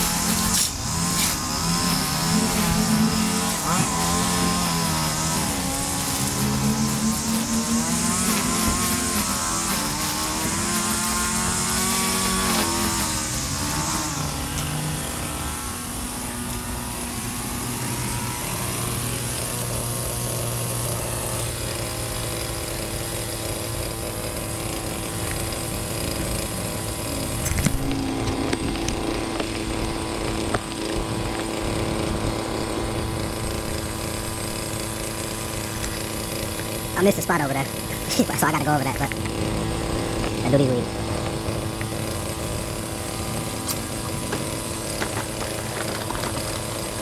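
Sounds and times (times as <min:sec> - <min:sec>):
small gas engine running: 0:00.0 - 0:47.0.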